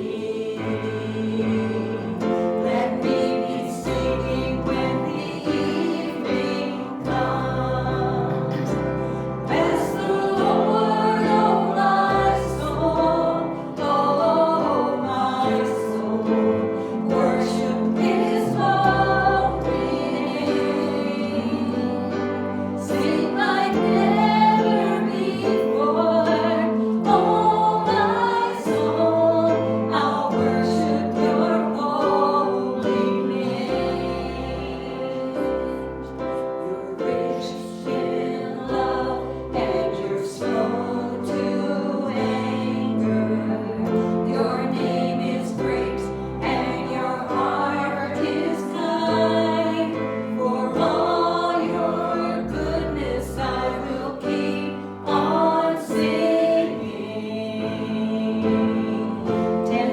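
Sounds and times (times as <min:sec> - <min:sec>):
congregation singing a gospel song: 0:00.0 - 0:59.9.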